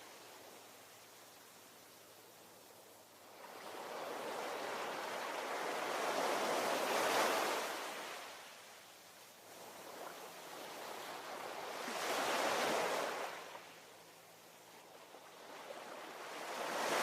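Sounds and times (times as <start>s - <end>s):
ocean waves on a shore: 0.0s - 17.0s.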